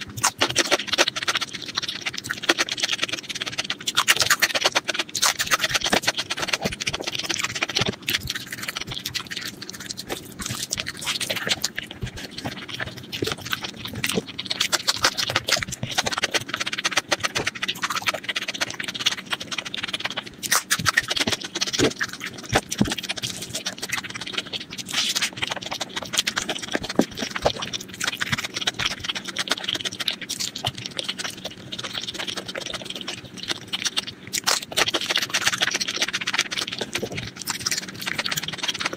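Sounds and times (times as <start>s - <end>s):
sticky mouth clicks: 0.0s - 38.9s
wet chewing: 0.0s - 38.9s.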